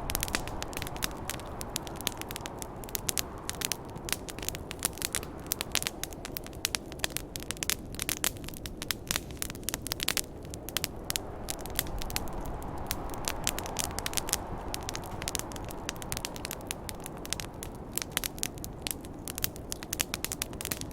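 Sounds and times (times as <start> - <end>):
snowstorm wind rushing: 0.0 - 20.9
wood fire crackling and popping: 0.0 - 20.9.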